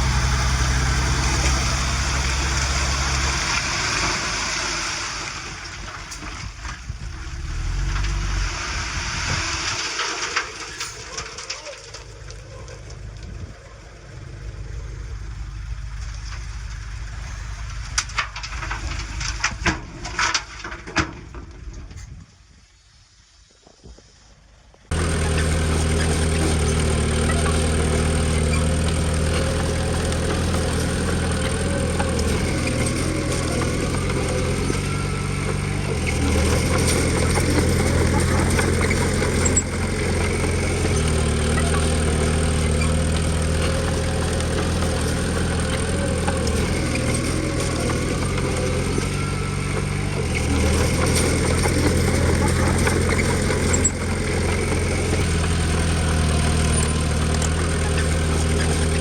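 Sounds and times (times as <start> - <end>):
bulldozer diesel engine running: 0.0 - 20.9, 24.9 - 59.0.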